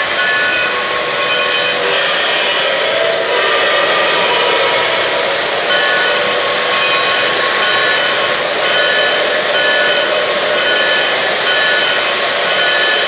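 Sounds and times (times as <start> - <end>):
model train steam hiss: 0.0 - 13.0.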